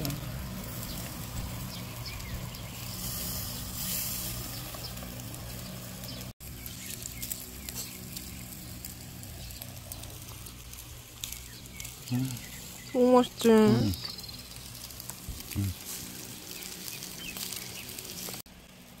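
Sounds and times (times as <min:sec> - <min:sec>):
low hum: 0:00.0 - 0:19.0
meat sizzling on a grill: 0:00.0 - 0:19.0
small crackles: 0:00.0 - 0:19.0.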